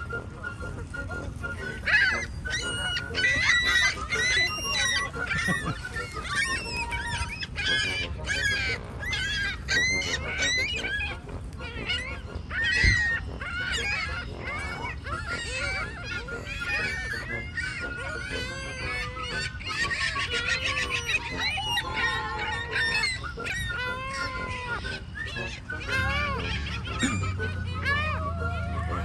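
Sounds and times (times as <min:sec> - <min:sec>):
birds honking and squawking: 0:00.0 - 0:29.0.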